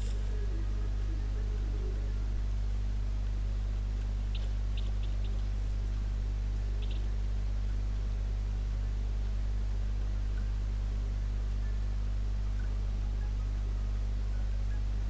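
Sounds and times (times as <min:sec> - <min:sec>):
faint recording hiss: 0:00.0 - 0:15.0
low electrical hum: 0:00.0 - 0:15.0.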